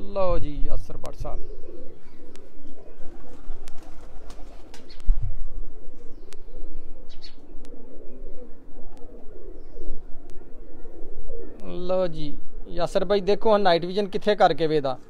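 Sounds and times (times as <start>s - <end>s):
pigeons cooing: 1.1s - 15.0s.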